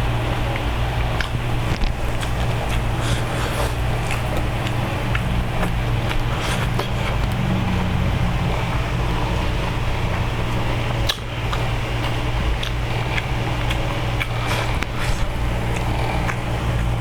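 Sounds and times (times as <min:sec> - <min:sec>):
room fan humming: 0:00.0 - 0:17.0
chewing raw vegetables: 0:00.1 - 0:17.0.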